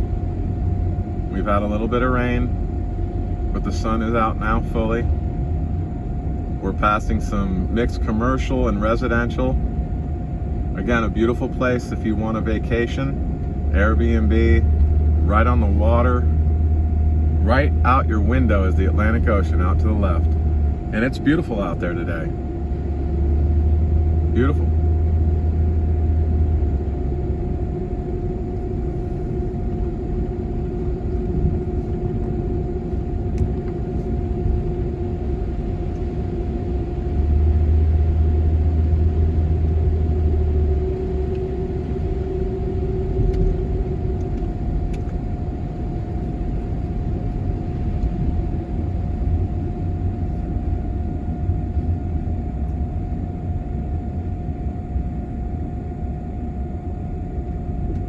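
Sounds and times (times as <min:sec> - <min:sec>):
vehicle road and engine rumble: 0:00.0 - 0:54.8
constant hum: 0:00.0 - 0:58.0.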